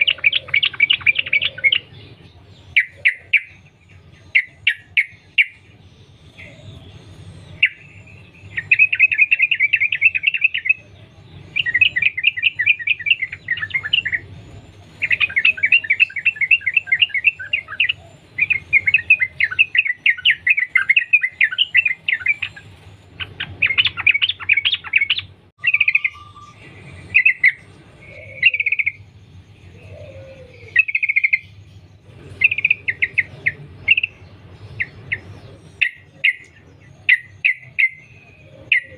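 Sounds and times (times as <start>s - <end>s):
bulbul singing chattering notes: 0.0s - 30.0s, 30.6s - 38.9s.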